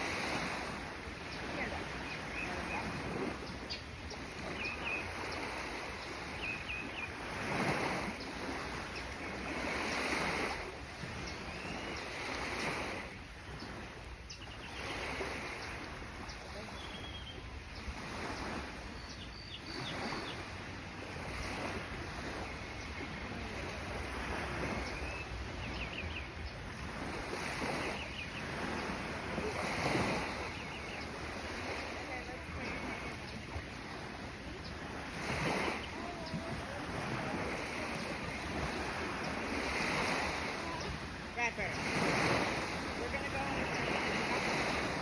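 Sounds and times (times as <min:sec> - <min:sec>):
small sea waves lapping at shore: 0:00.0 - 0:45.0
wind on microphone: 0:00.0 - 0:45.0.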